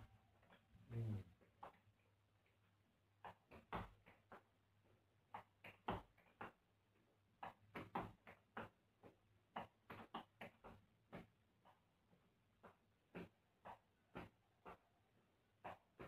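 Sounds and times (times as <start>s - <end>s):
tap shoes clicking on tiled floor: 1.4s - 16.0s.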